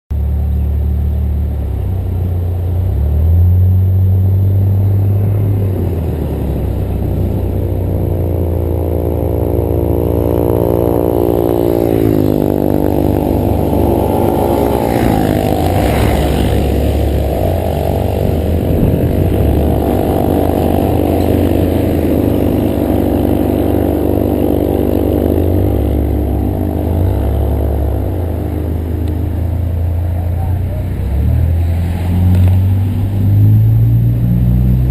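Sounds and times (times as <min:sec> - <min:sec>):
vehicle engine running: 0:00.1 - 0:34.9.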